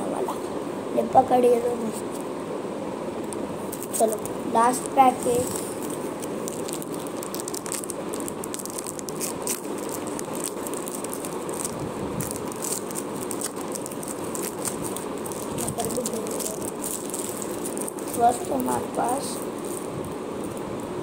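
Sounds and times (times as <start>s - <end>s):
foil wrapper crinkling: 3.7s - 21.0s.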